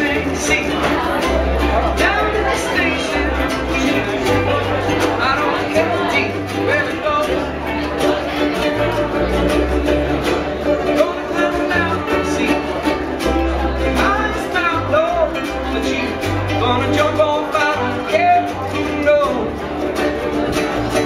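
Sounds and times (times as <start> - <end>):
low bass line: 0.0 - 21.0
man singing: 0.0 - 21.0
ukuleles playing: 0.0 - 21.0.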